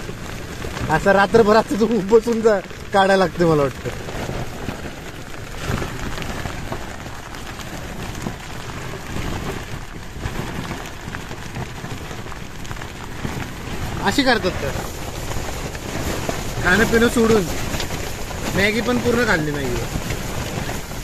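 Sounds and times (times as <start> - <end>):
heavy rain on a tent: 0.0 - 21.0.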